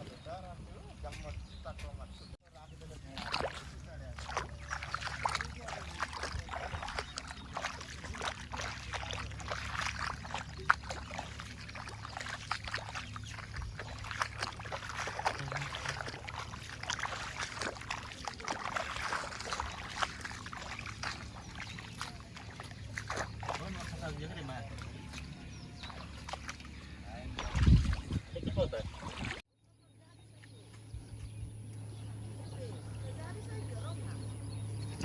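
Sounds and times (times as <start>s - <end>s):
mud and water sloshing: 0.0s - 29.5s, 30.2s - 35.0s.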